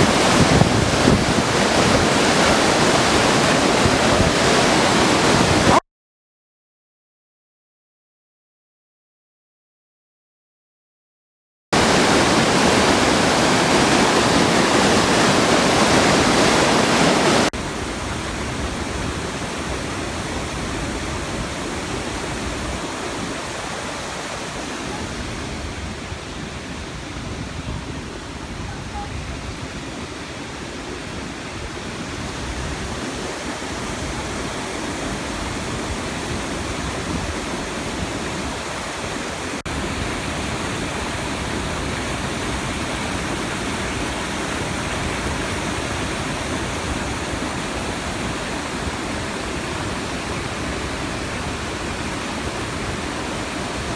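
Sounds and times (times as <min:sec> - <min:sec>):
waterfall rushing: 0:00.0 - 0:05.8, 0:11.8 - 0:53.9.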